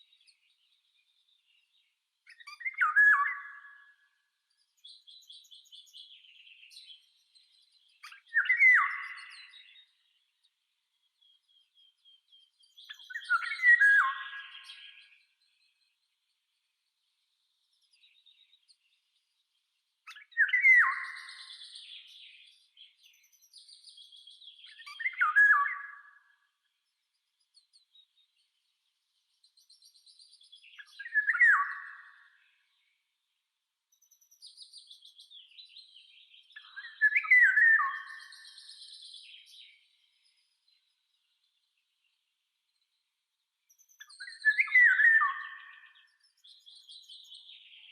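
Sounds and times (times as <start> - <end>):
songbird chirping phrases: 0.0 - 47.9.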